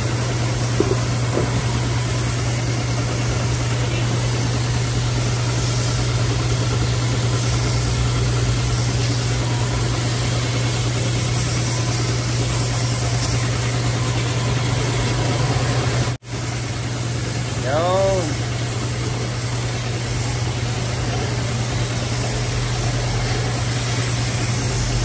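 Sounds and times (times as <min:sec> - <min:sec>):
pressure washer motor hum: 0:00.0 - 0:25.0
water jet spraying on metal fins: 0:00.0 - 0:25.0.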